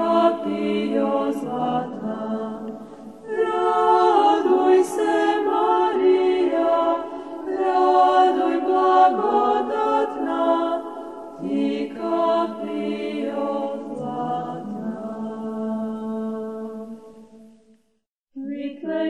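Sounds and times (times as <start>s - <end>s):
voices singing a hymn in harmony: 0.0s - 17.5s, 18.4s - 19.0s.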